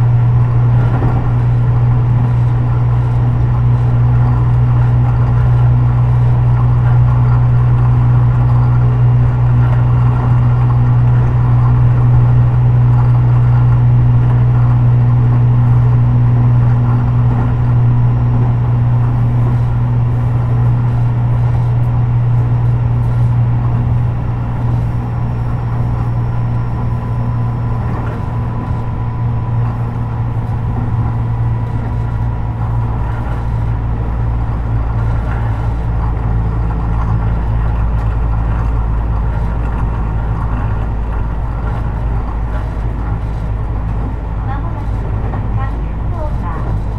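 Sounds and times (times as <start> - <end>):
train running gear rumble: 0.0 - 46.9.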